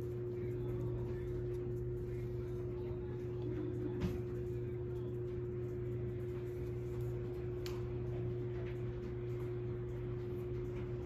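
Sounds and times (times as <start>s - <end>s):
faint constant whine: 0.0s - 11.0s
low background hum: 0.0s - 11.0s.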